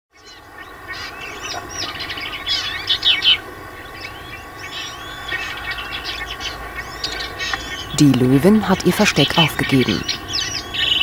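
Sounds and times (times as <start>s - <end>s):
birds chirping and whistling: 0.2s - 11.0s
faint high hum: 0.2s - 11.0s.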